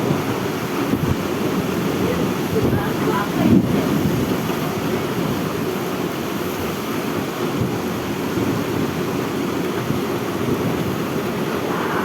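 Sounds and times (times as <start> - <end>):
rain: 0.0 - 12.0
wind buffeting microphone: 0.0 - 12.0.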